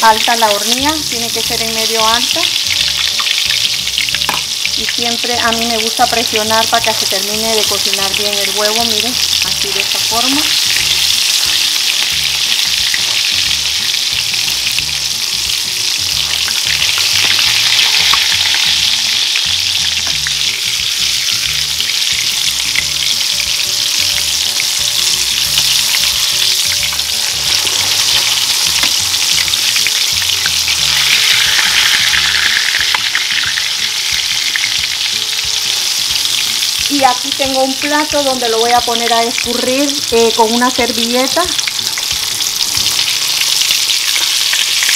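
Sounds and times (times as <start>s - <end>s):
fish frying in hot oil: 0.0s - 44.9s.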